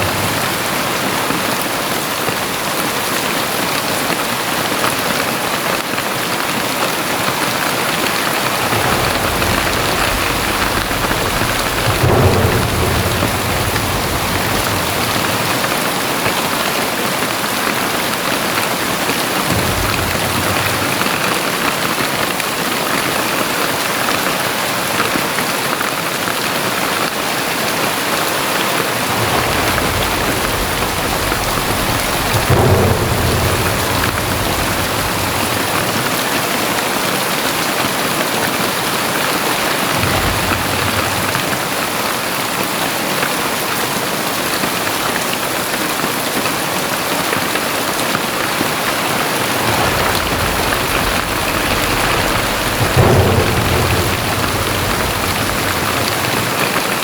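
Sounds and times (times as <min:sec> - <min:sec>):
thunder rumbling: 0:00.0 - 0:03.4, 0:07.1 - 0:23.9, 0:26.9 - 0:43.4, 0:44.7 - 0:57.0
very heavy rain pouring: 0:00.0 - 0:57.0.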